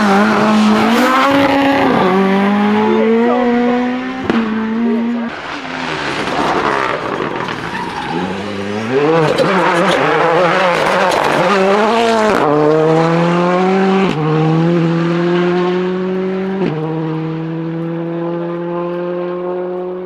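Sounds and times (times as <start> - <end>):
rally car engine accelerating: 0.0 - 20.0.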